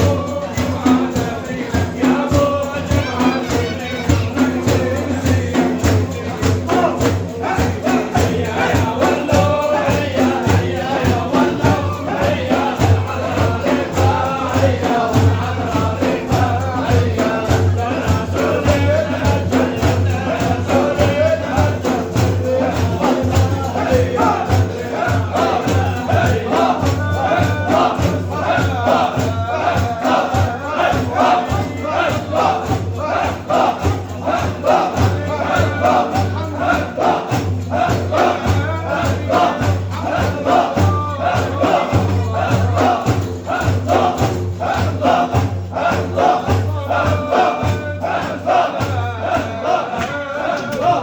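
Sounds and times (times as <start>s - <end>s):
frame drums beating: 0.0s - 51.0s
men chanting together: 0.0s - 51.0s.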